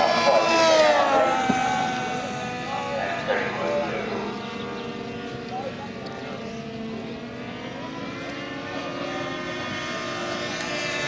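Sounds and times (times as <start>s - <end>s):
model plane engines passing: 0.0s - 11.0s.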